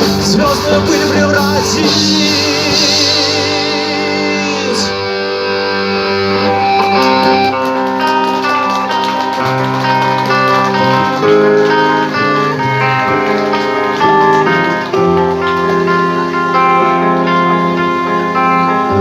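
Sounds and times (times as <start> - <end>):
guitar picking short notes: 0.0 - 19.0
metal band playing live: 0.0 - 19.0.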